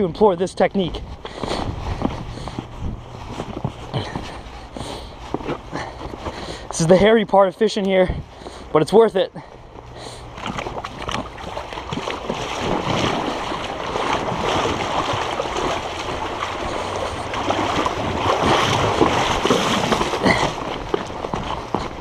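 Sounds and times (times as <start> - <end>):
wading through river water: 0.0 - 22.0.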